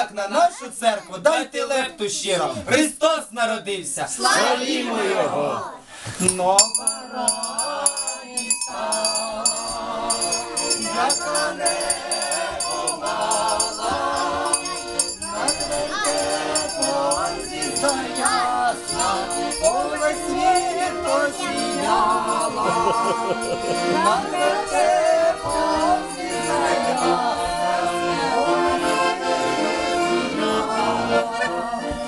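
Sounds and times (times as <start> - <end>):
group singing carol: 4.2 - 32.0
accordion: 6.1 - 32.0.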